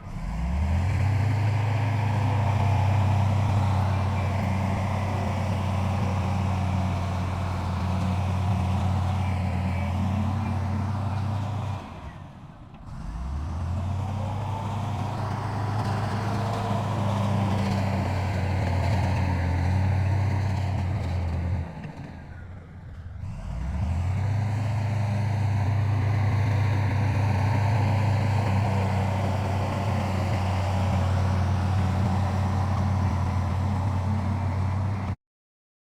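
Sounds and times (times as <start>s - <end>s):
heavy machinery diesel engine: 0.0s - 35.2s.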